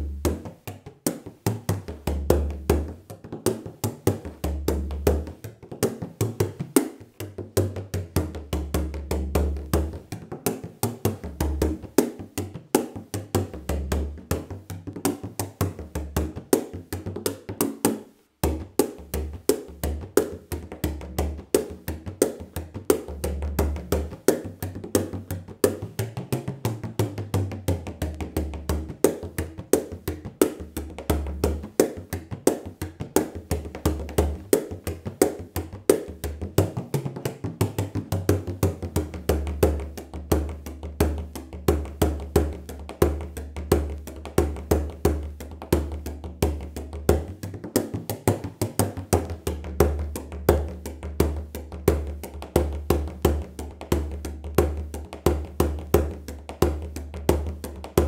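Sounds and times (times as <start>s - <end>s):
frame drum fast rhythm: 0.0s - 58.0s.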